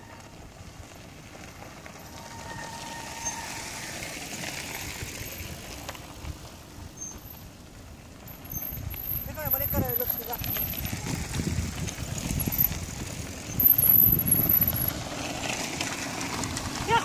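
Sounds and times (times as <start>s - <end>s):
bike tyres crunching on gravel: 0.0s - 17.0s.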